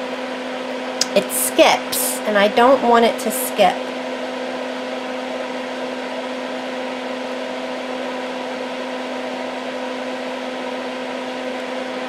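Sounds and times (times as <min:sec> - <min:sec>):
fan humming with air rush: 0:00.0 - 0:12.0.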